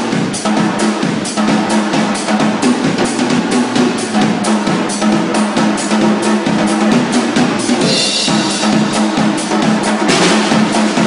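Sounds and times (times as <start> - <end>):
drum kit playing fast: 0.0 - 11.0.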